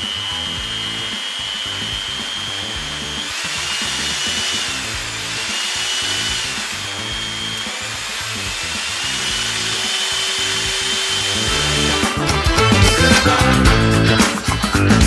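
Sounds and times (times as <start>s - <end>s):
background music: 0.0s - 15.0s
mixer motor whining: 0.0s - 15.0s.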